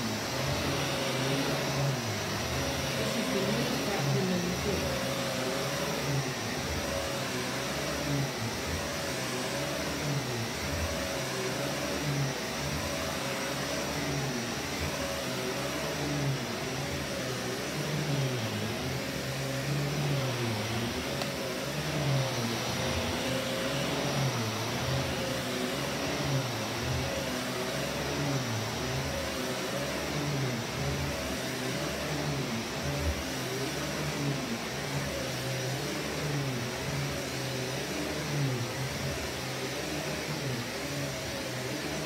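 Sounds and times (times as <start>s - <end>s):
vacuum cleaner on carpet: 0.0s - 42.0s.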